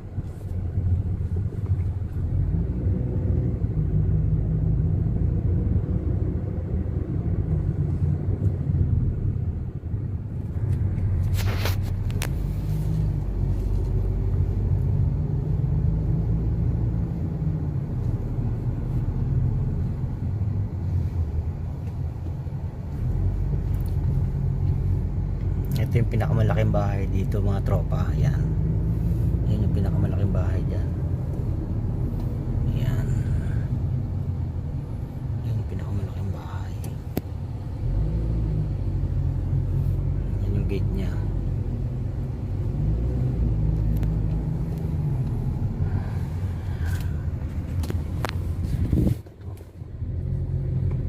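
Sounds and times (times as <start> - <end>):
car engine and road rumble: 0.0 - 51.0.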